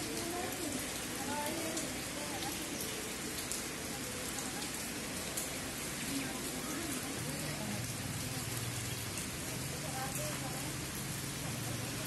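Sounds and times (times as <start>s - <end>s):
rain on wet paving: 0.0s - 12.0s.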